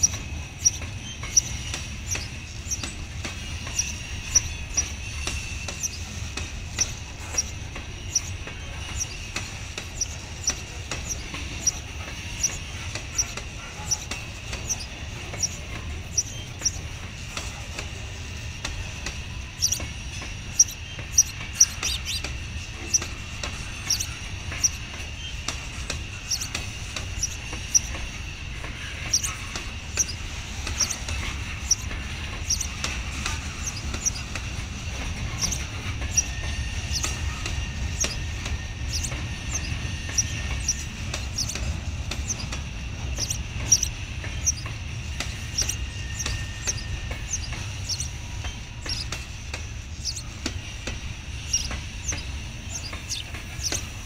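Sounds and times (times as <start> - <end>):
freight cars rumbling: 0.0 - 54.0
steady high ringing: 0.0 - 54.0
wheels squeaking and clicking: 0.0 - 54.0.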